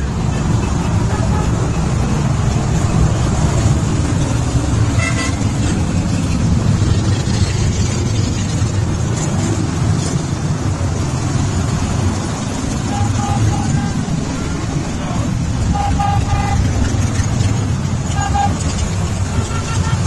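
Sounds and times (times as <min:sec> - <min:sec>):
motorcycle engines rumbling: 0:00.0 - 0:20.0.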